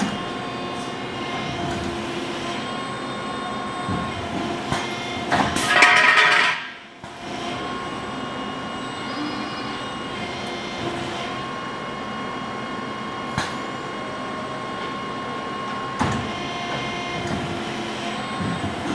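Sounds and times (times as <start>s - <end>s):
machine hum with whining tones: 0.0s - 18.9s.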